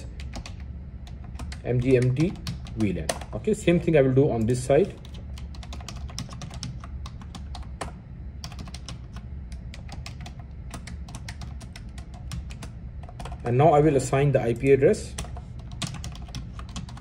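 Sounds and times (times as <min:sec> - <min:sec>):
typing on computer keyboard: 0:00.1 - 0:03.3, 0:04.4 - 0:13.4, 0:15.2 - 0:17.0.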